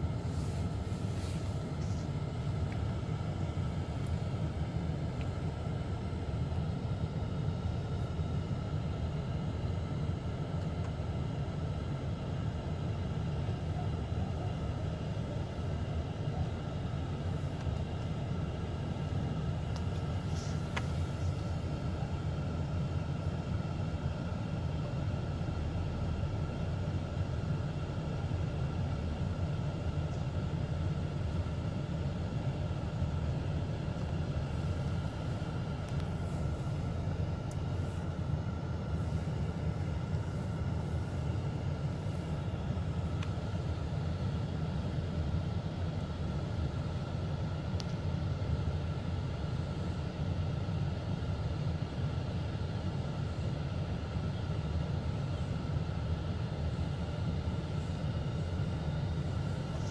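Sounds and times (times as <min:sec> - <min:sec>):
low rumble inside car: 0:00.0 - 0:59.9.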